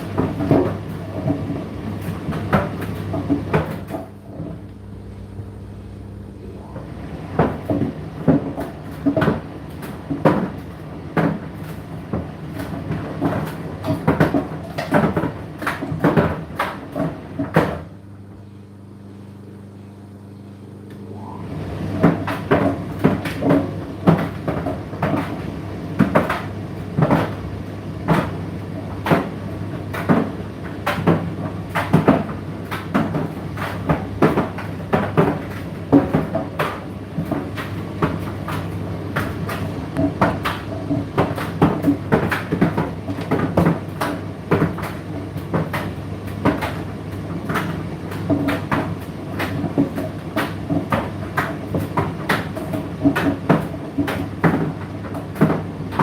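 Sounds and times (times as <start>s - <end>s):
tumble dryer motor hum: 0.0s - 56.0s.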